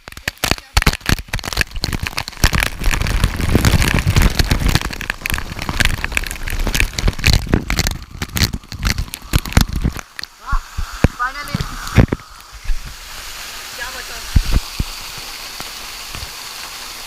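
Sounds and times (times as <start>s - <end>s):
waterfall pounding and splashing: 0.0s - 17.0s.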